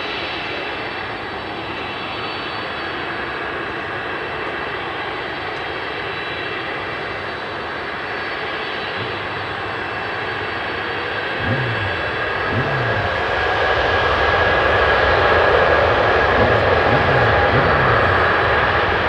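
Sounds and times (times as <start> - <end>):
jet engines at high thrust: 0.0 - 19.0.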